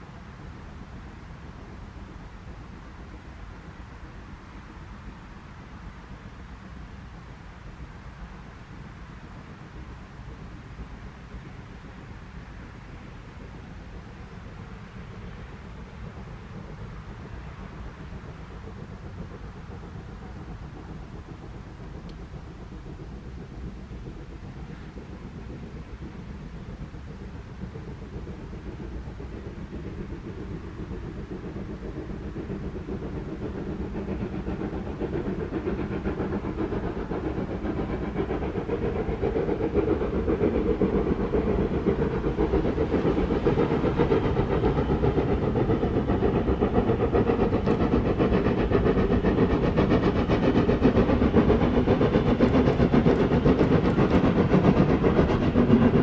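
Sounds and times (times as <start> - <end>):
steam locomotive exhaust: 0.0 - 56.0.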